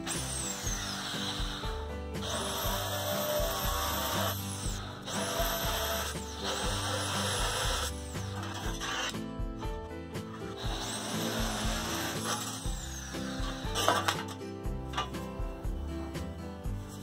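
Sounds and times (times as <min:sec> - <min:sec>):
electric drill boring metal: 0:00.0 - 0:09.2, 0:10.3 - 0:17.0
background music with beat: 0:00.0 - 0:17.0.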